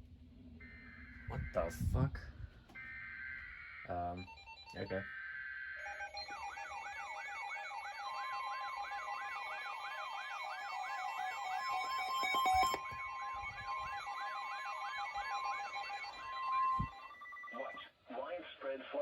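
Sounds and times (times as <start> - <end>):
steady alarm tone: 0.4 - 17.8
falling electronic chirp: 0.6 - 17.8.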